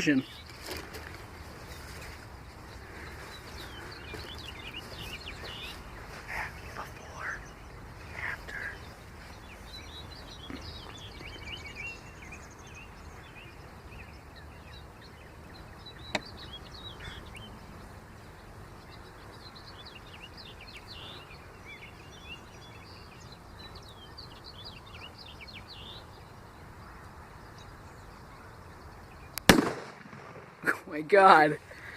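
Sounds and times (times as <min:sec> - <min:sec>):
outdoor background hum: 0:00.0 - 0:31.9
small birds chirping: 0:00.0 - 0:31.9.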